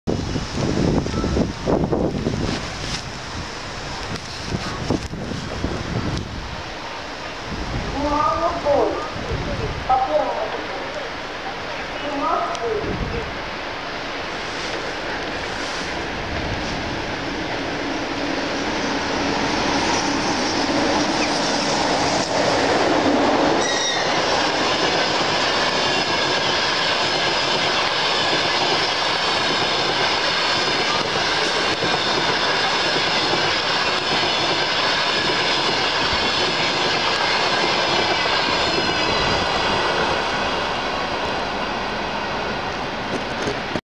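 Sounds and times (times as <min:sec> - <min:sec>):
train wheels rushing on rail: 0:00.1 - 0:43.8.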